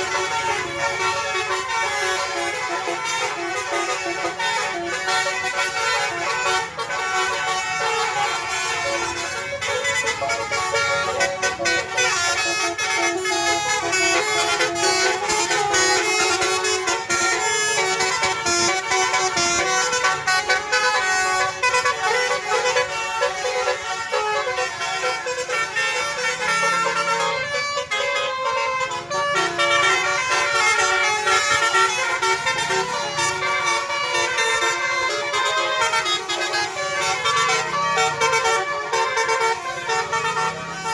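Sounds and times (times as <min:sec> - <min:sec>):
bus air horns playing melody: 0:00.0 - 0:40.9.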